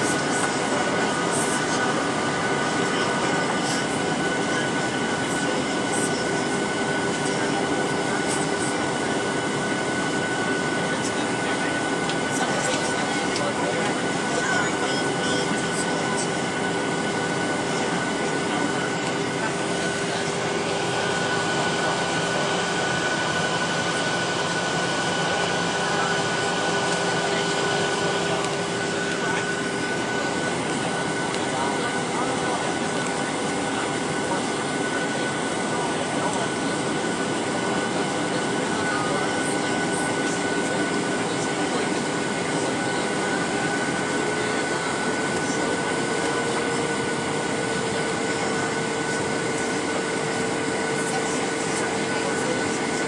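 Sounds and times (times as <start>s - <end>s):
rush of air in aircraft cabin: 0.0s - 53.0s
thin steady whine: 0.0s - 53.0s
turbofan engines droning: 0.0s - 53.0s.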